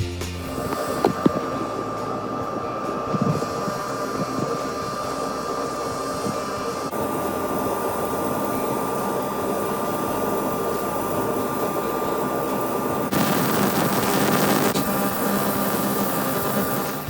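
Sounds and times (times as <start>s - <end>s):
laser cleaner hissing buzz: 0.4s - 17.0s.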